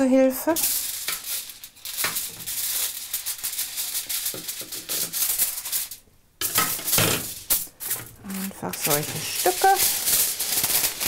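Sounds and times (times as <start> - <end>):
foil crinkling and rustling: 0.6 - 11.0
scissors cutting foil: 0.6 - 11.0.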